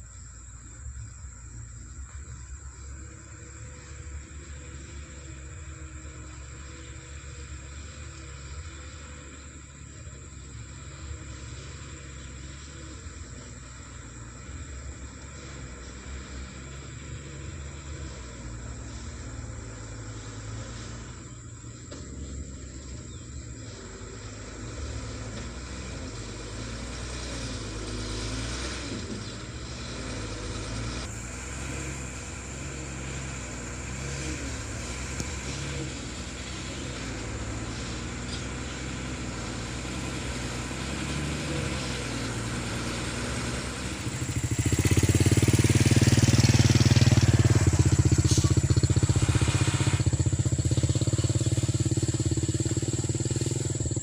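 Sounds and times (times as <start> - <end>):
vehicle engine under load: 0.0 - 54.0.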